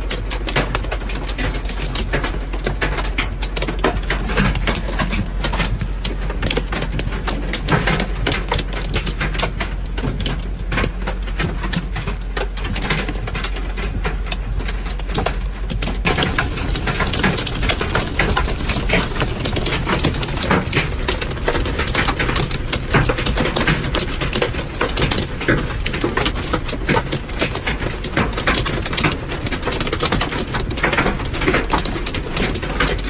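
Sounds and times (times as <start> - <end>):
hail pelting car roof: 0.0 - 33.0
steady low rumble: 0.0 - 33.0.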